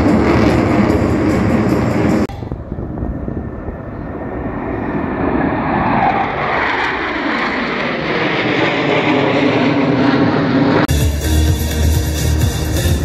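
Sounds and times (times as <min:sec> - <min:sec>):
jet roar overhead: 0:00.0 - 0:13.0.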